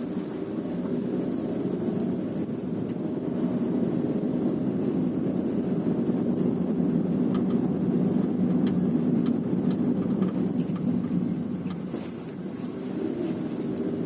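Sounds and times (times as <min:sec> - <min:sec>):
car road and engine drone: 0:00.0 - 0:14.0.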